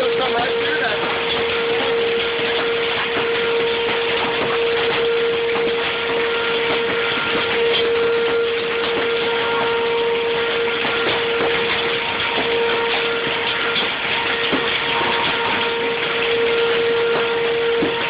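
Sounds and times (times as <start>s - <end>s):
heavy rain and hail: 0.0s - 18.0s
tornado warning siren: 0.0s - 18.0s.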